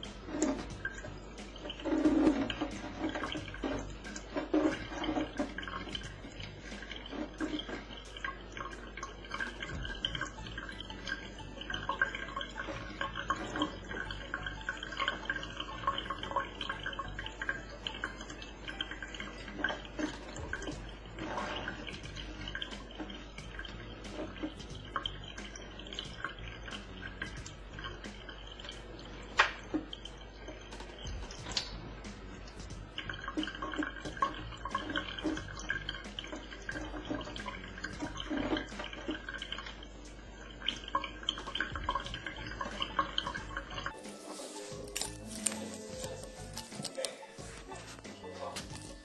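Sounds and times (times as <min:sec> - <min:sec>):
tap water trickling into sink: 0:00.0 - 0:44.1
water drips and splashes: 0:00.0 - 0:49.0.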